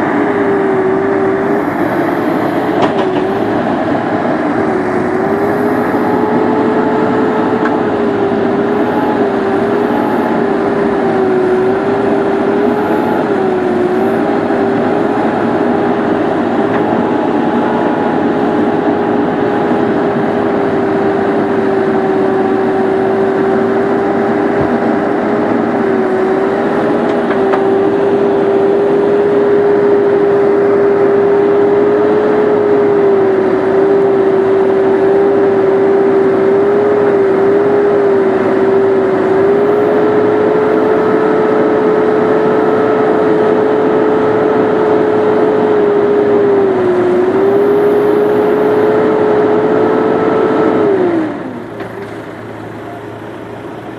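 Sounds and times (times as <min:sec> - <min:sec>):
excavator engine and hydraulic whine: 0:00.0 - 0:53.9.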